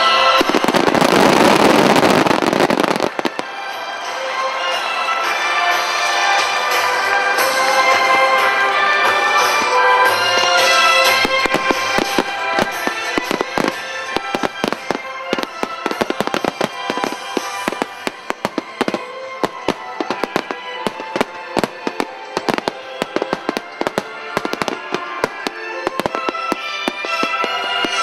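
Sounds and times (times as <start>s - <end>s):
firework shells bursting and crackling: 0.0s - 28.0s
music playing: 0.0s - 28.0s.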